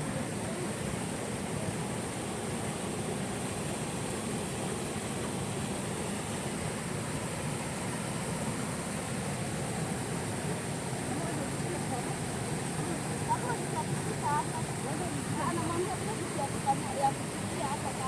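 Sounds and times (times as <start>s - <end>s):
river and waterfall rushing: 0.0s - 18.0s.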